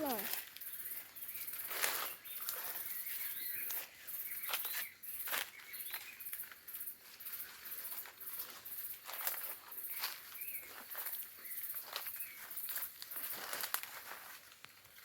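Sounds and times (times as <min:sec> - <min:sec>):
footsteps on forest trail: 0:00.0 - 0:15.0
small birds chirping: 0:00.0 - 0:15.0.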